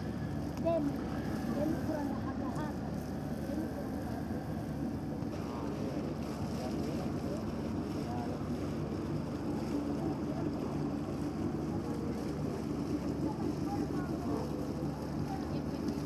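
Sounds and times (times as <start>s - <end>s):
faint distant voices: 0.0s - 16.0s.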